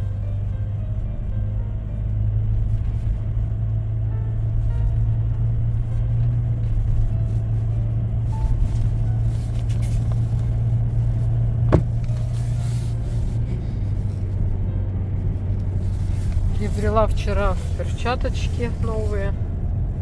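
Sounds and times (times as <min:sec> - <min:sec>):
car cabin engine and road drone: 0:00.0 - 0:20.0.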